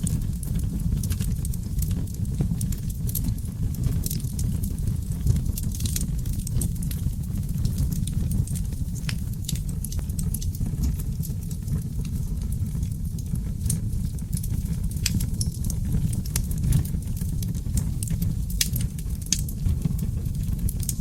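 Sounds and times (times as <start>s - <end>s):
logs crackling and popping: 0.0s - 21.0s
low rumble of flames: 0.0s - 21.0s.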